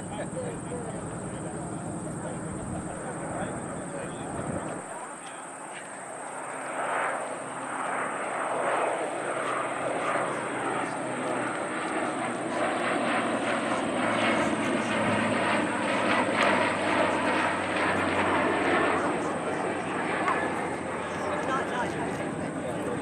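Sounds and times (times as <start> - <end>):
propeller plane engine drone: 0.0 - 23.0.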